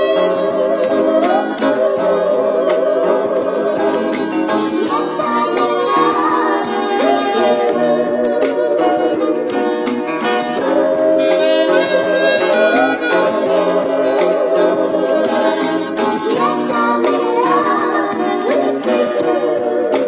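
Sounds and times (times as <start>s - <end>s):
background music with gliding notes: 0.0s - 20.0s.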